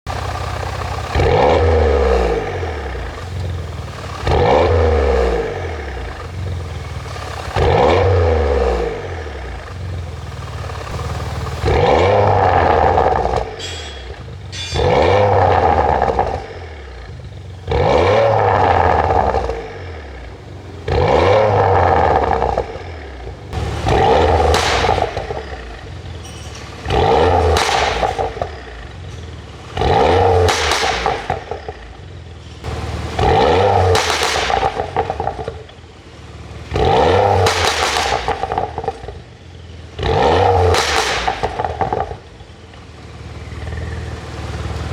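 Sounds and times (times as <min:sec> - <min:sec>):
car engine revving: 0:00.0 - 0:44.9
exhaust crackles and pops: 0:00.0 - 0:44.9.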